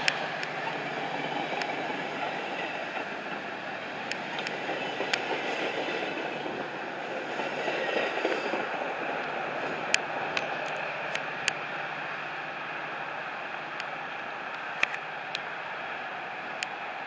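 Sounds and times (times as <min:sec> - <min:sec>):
sharp clicks of train wheels: 0:00.0 - 0:17.0
train wheels rumbling on rail: 0:00.0 - 0:17.0.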